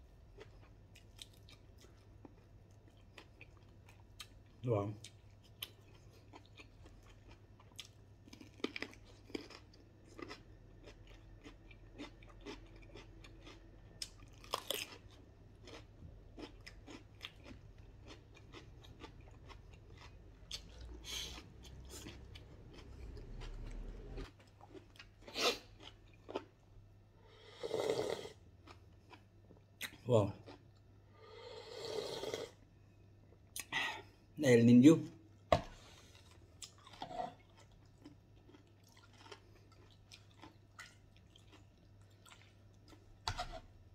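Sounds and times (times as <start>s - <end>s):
chewing and crunching: 0.1s - 26.6s, 28.5s - 30.9s, 35.8s - 43.9s.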